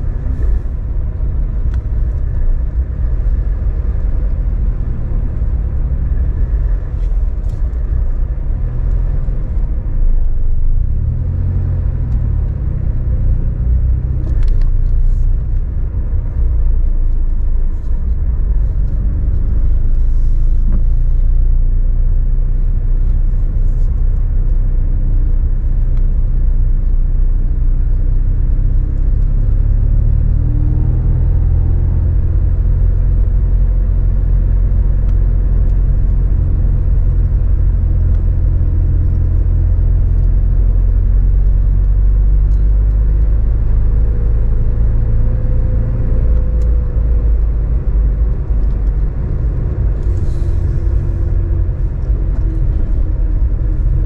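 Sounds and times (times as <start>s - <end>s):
car engine droning: 0.0s - 54.0s
road noise: 0.0s - 54.0s.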